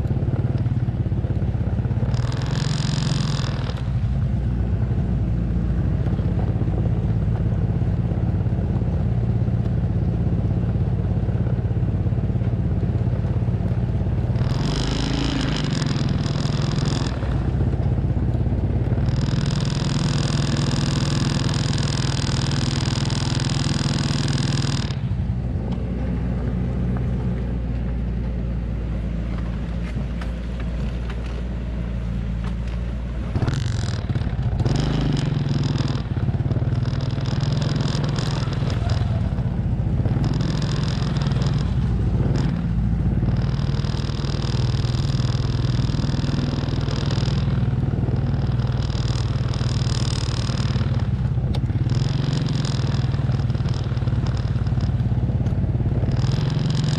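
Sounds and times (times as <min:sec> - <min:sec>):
truck engine droning: 0:00.0 - 0:56.9.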